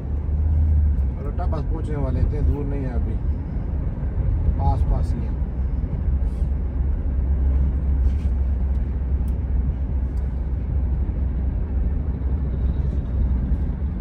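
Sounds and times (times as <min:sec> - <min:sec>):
car engine rumble: 0:00.0 - 0:14.0
tyres on the road: 0:00.0 - 0:14.0.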